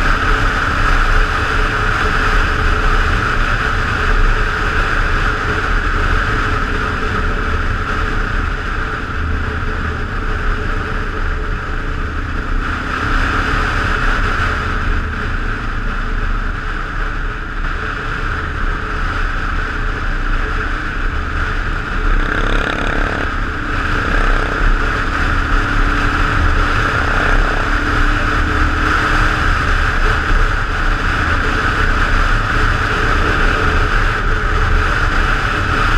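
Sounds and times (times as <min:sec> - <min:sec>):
motorcycle exhaust running: 0:00.0 - 0:35.9
wind rush: 0:00.0 - 0:35.9.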